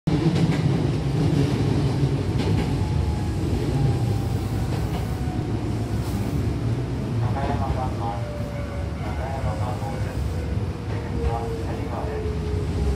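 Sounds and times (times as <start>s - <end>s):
train wheels rumbling on rail: 0.1s - 12.9s
faint train whine: 2.4s - 12.9s.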